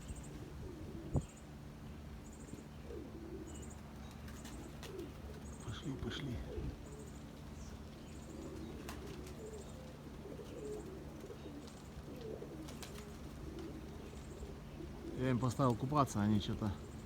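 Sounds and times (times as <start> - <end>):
pigeons cooing: 0.0 - 17.0
small birds chirping: 0.0 - 17.0.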